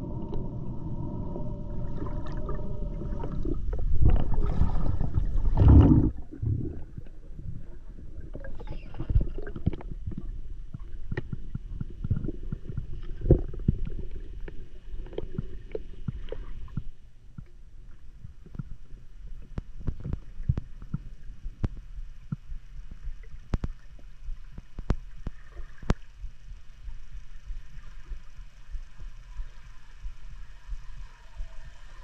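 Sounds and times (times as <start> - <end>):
muffled underwater rumble: 0.0 - 32.0.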